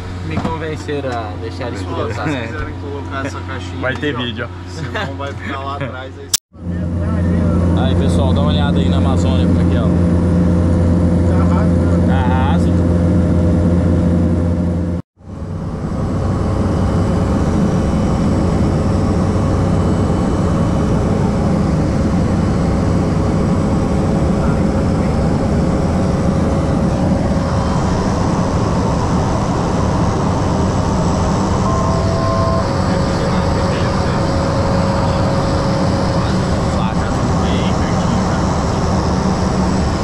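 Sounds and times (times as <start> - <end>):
propeller plane engine in cabin: 0.0 - 40.0.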